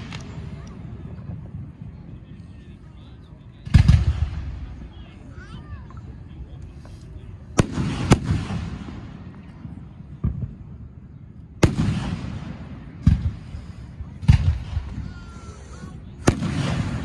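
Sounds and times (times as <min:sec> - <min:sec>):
fireworks bursting with sharp bangs: 0:00.0 - 0:05.2, 0:06.8 - 0:17.0.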